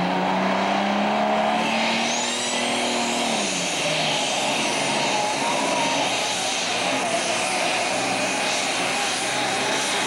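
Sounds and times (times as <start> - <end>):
diesel tractor engine at full throttle: 0.0 - 10.0
thin high whine: 1.6 - 10.0.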